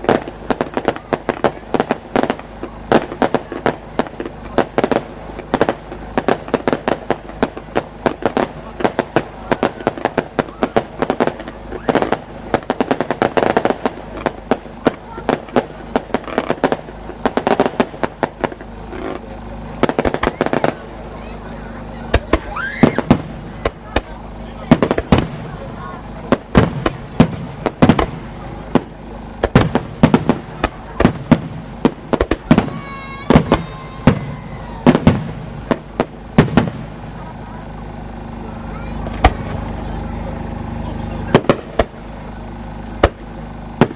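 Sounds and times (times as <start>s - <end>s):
fireworks bangs and cracks: 0.0s - 43.9s.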